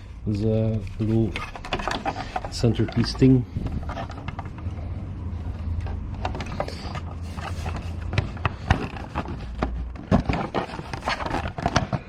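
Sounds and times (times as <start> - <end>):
plastic parts clicking and knocking: 0.7 - 4.8, 5.5 - 12.0.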